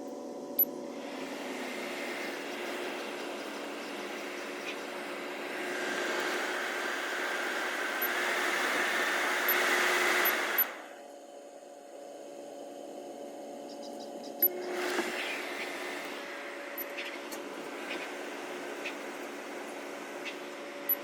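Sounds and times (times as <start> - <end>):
blower fan motor hum: 0.0 - 21.0.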